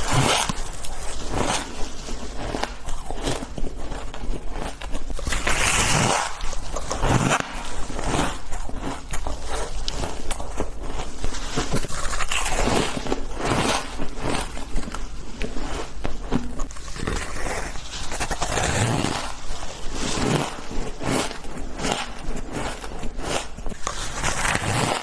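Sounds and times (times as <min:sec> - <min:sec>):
crunching and chewing ice: 0:00.0 - 0:25.0.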